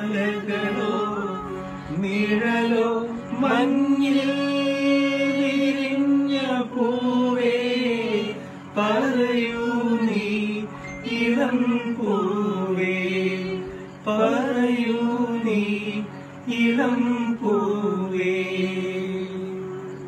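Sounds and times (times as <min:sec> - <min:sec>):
harmonium held notes: 0:00.0 - 0:19.9
person singing: 0:00.0 - 0:20.0.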